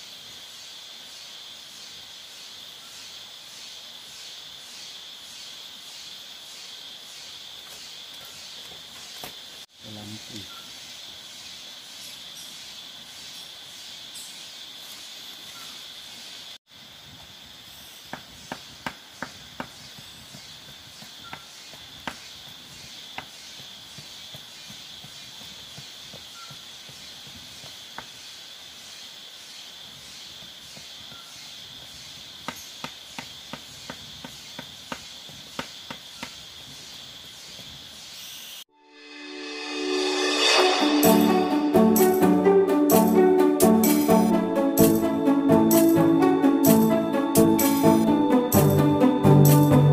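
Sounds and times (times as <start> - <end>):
insects droning: 0.0 - 49.5.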